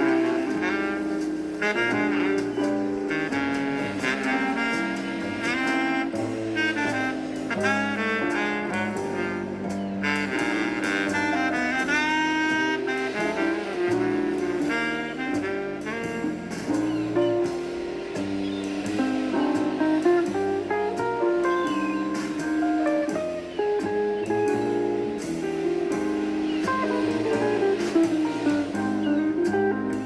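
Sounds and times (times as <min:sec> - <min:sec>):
jazz saxophone with bass: 0:00.0 - 0:30.0.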